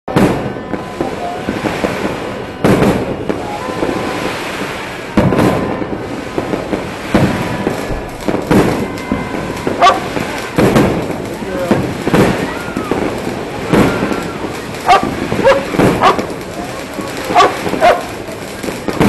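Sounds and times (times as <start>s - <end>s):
firecrackers crackling: 0.1s - 19.0s
loud firework bangs with echo: 0.1s - 19.0s.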